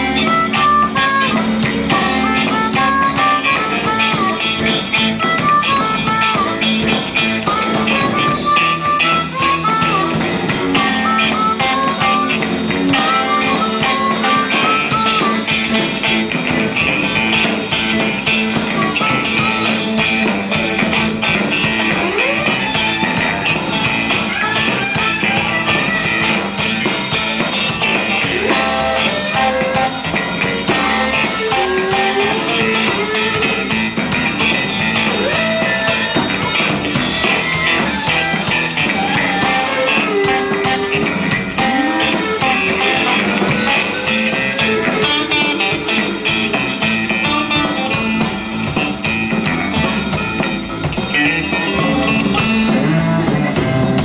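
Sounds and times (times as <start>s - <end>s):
blues band playing: 0.0s - 54.0s
electric guitar solo: 0.0s - 54.0s.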